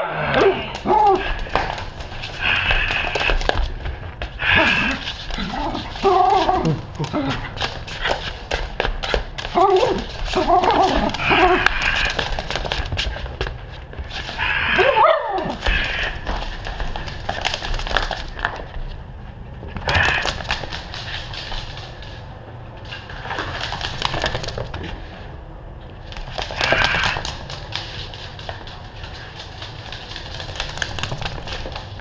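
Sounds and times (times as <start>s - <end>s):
dog claws clicking on wooden floor: 0.3s - 14.4s, 15.3s - 18.9s, 19.7s - 24.9s, 26.0s - 32.0s.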